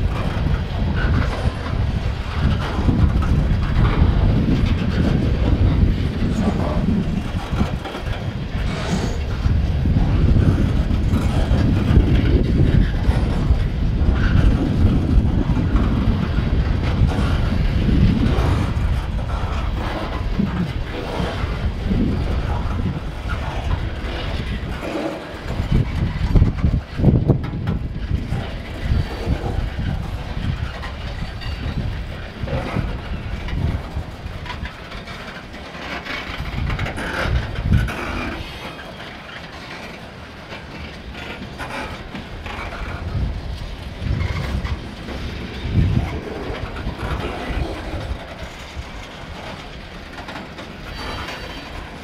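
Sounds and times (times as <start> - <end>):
train low rumble: 0.0 - 52.0
train wheels clicking over rail joints: 0.0 - 52.0.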